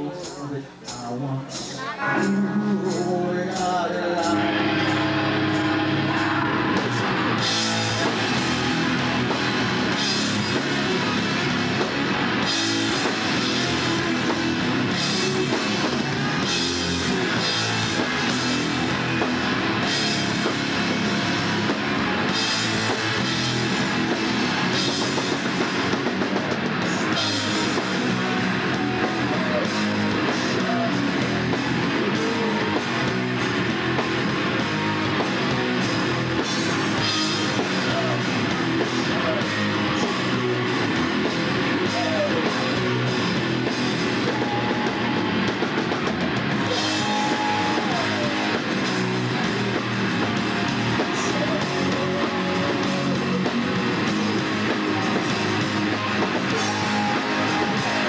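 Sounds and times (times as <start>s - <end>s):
bass guitar: 0.0s - 58.0s
drum kit: 0.0s - 58.0s
electric guitars: 0.8s - 58.0s.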